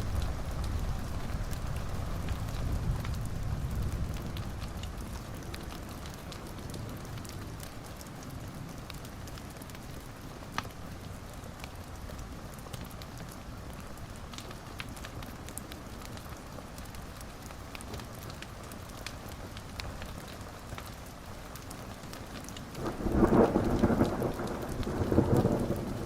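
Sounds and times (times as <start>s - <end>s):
fire crackles and pops: 0.0s - 26.0s
wood fire hissing and rumbling: 0.0s - 26.0s.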